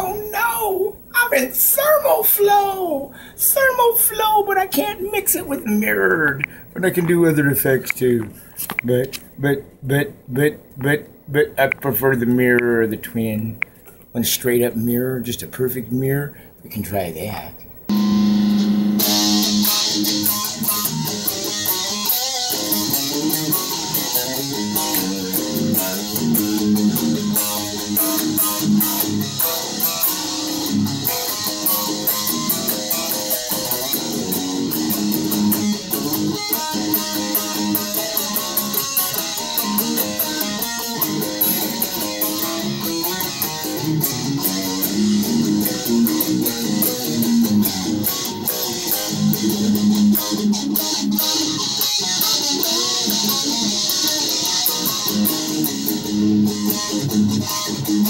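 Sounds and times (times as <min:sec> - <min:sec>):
electric guitar jam: 0:00.0 - 0:14.3, 0:17.5 - 0:58.0.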